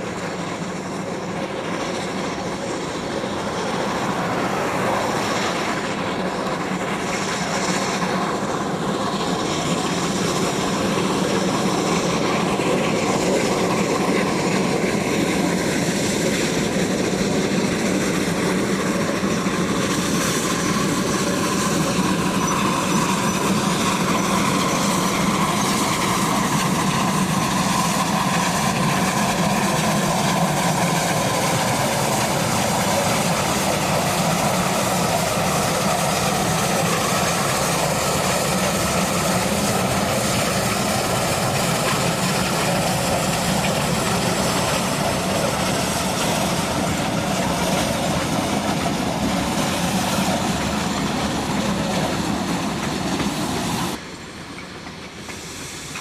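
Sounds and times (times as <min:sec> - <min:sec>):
steam locomotive exhaust: 0:00.0 - 0:56.0
train wheels on rails: 0:00.0 - 0:56.0.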